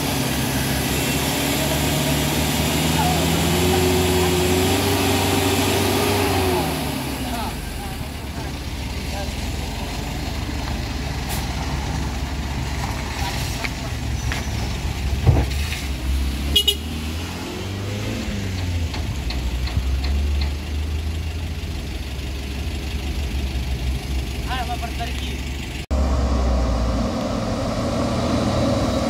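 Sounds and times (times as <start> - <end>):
pickup truck engines climbing: 0.0 - 29.0
pickup truck passing close: 0.0 - 29.0.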